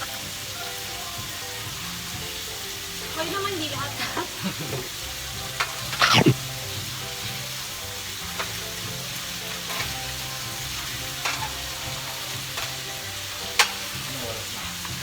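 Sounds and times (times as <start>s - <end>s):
pork sizzling on grill pan: 0.0s - 15.0s.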